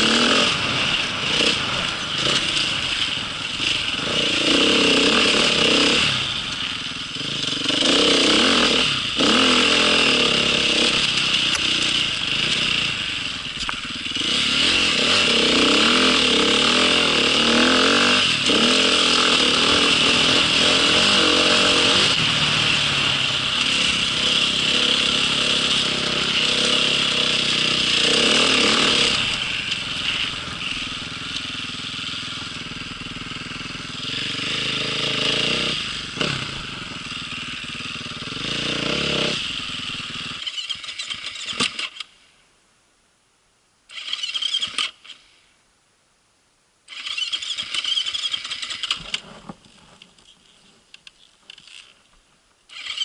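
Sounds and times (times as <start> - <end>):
small vehicle engine running: 0.0 - 42.1, 46.9 - 49.5, 52.7 - 53.0.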